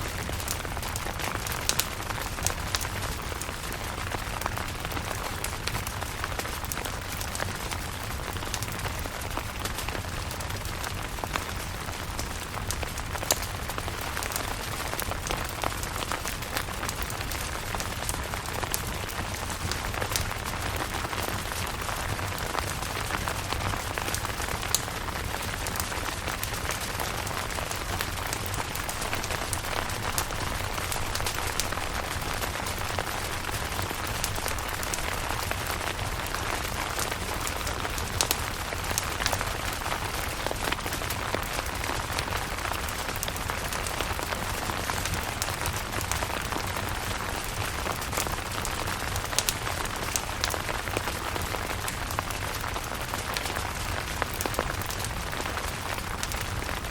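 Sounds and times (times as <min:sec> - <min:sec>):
rain pattering on a tent: 0:00.0 - 0:56.9.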